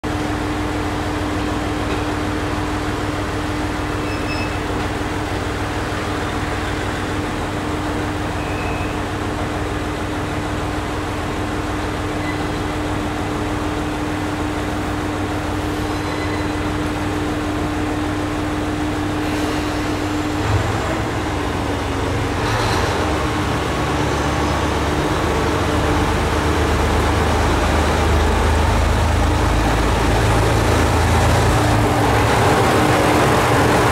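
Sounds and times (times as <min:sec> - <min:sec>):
diesel railcar engine: 0:00.0 - 0:33.9.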